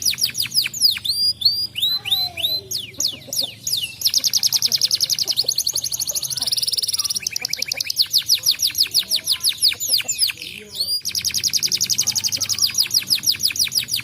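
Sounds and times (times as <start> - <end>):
canary singing trills: 0.0 - 14.0.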